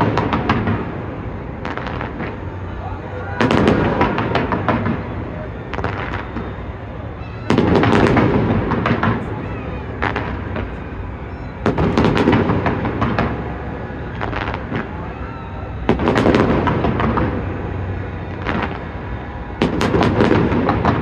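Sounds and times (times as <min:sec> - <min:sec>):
fireworks cracks and booms: 0:00.0 - 0:21.0.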